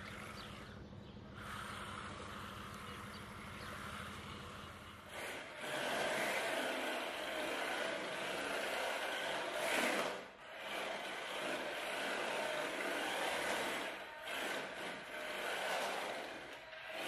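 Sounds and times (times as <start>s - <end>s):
rc car electric motor whining: 1.4s - 17.0s.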